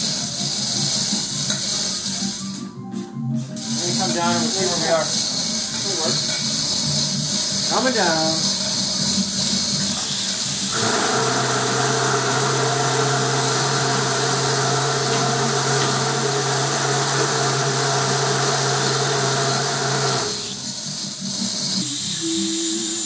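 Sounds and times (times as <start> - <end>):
crane hoist motor humming: 3.6 - 23.0.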